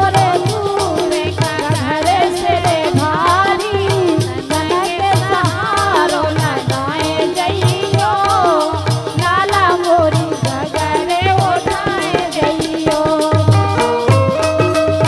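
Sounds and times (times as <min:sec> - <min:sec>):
woman singing: 0:00.0 - 0:14.4
dholak drum beat: 0:00.0 - 0:15.0
harmonium: 0:00.0 - 0:15.0.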